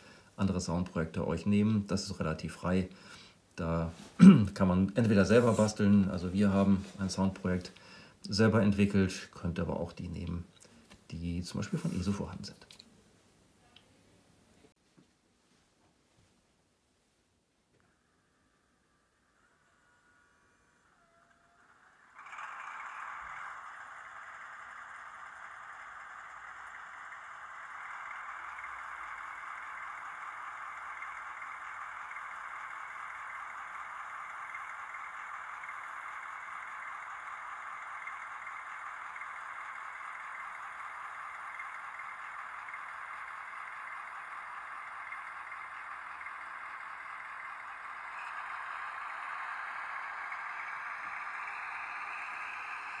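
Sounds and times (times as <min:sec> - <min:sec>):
tinny diesel engine sound effect: 0:00.0 - 0:12.8, 0:17.8 - 0:53.0.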